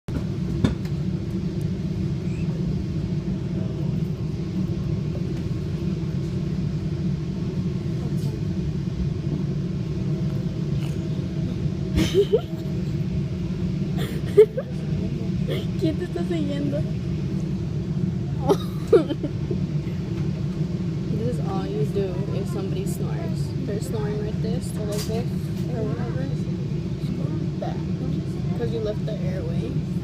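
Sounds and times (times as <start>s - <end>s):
steady low rumble: 0.1s - 30.0s.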